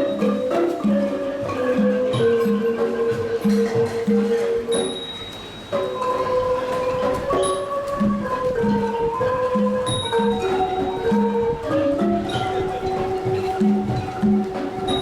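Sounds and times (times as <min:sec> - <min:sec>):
xylophones playing a melody: 0:00.0 - 0:15.0.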